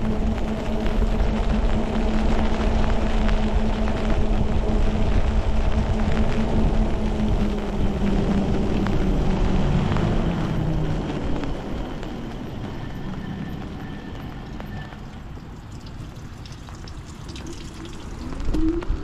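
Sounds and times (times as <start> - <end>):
rain hiss on wet pavement: 0.0 - 19.0
raindrops tapping: 0.0 - 19.0.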